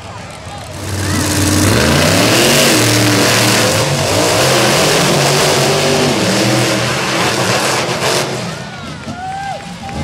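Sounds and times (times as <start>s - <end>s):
monster truck engines revving: 0.0s - 10.0s.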